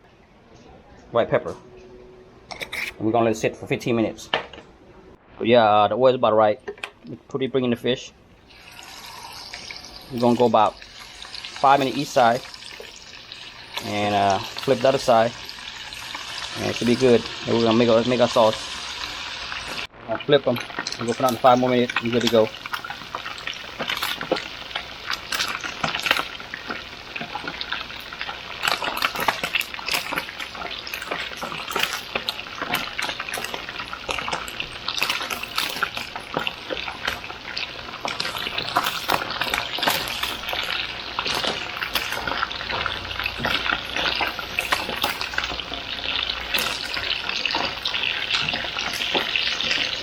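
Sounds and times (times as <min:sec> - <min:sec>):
fish frying in hot oil: 0:08.4 - 0:50.0.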